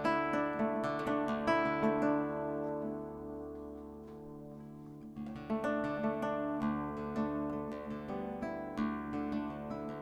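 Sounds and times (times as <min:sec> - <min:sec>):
acoustic guitar chord ringing: 0:00.0 - 0:10.0.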